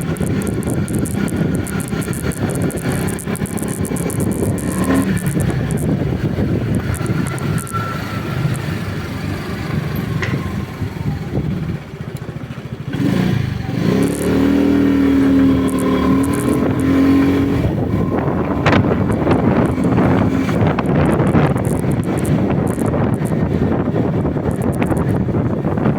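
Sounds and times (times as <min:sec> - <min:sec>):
vehicle engine running: 0:00.0 - 0:25.9
wind noise: 0:00.0 - 0:25.9.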